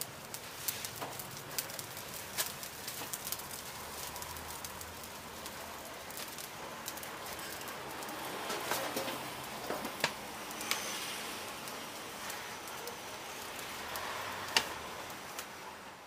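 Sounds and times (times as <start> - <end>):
charcoal crackling and popping: 0.0 - 16.0.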